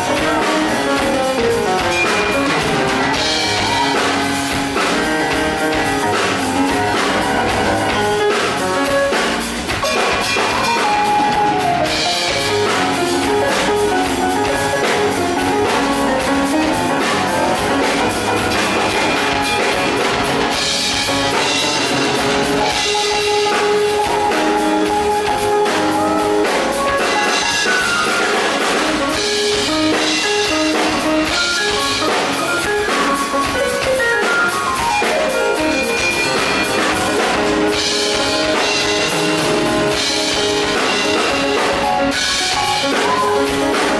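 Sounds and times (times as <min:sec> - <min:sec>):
drums keeping a steady beat: 0:00.0 - 0:43.9
stage piano playing: 0:00.0 - 0:43.9.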